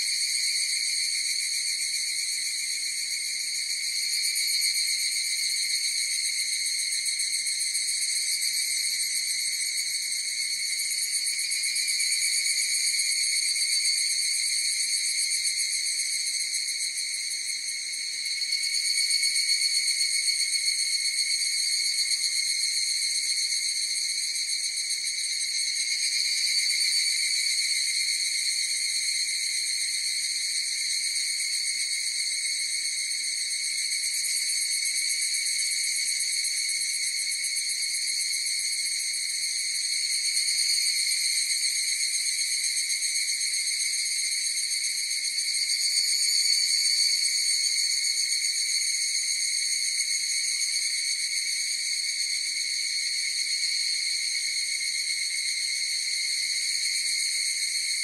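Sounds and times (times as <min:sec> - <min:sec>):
cicadas ringing trill: 0:10.5 - 0:58.0.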